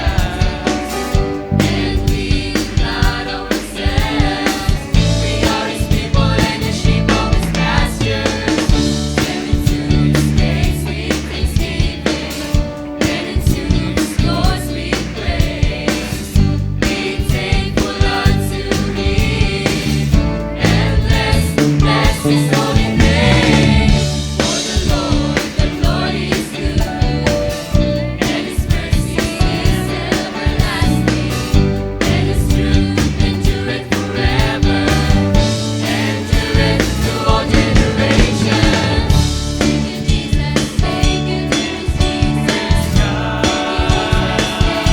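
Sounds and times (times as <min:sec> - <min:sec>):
band with drums and bass: 0:00.0 - 0:44.9
youth choir singing gospel: 0:00.0 - 0:44.9.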